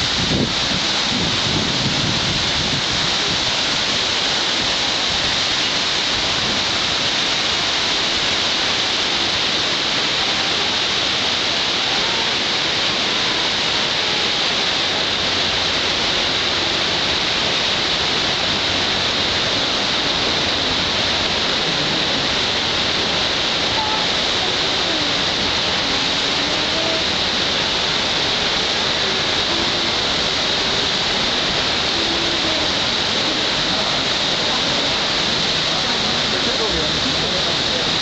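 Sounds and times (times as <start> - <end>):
river rushing: 0.0 - 38.0.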